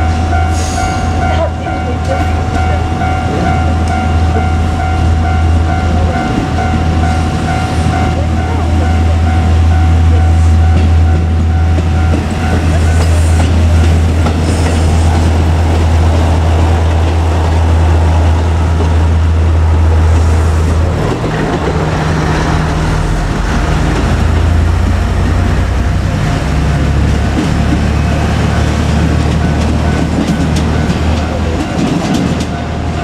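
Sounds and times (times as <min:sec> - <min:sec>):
diesel railcar engine drone: 0:00.0 - 0:33.0
rail running noise: 0:00.0 - 0:33.0.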